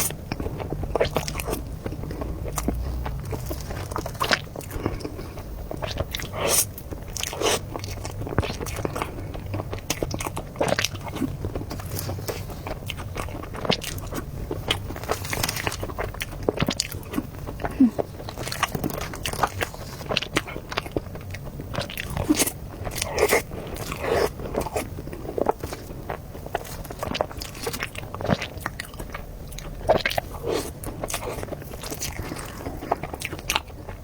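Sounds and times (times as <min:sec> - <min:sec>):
person chewing with mouth clicks: 0:00.0 - 0:34.0.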